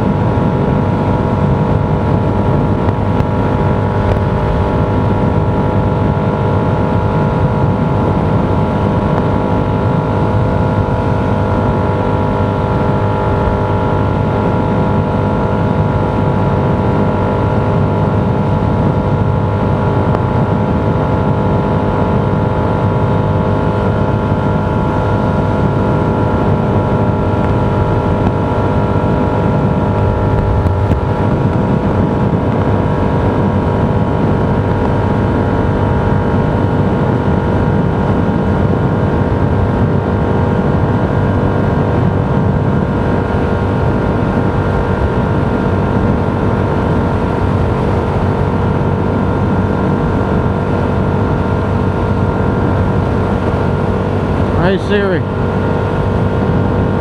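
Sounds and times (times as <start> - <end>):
constant hum: 0.0 - 57.0
vehicle road noise: 0.0 - 57.0.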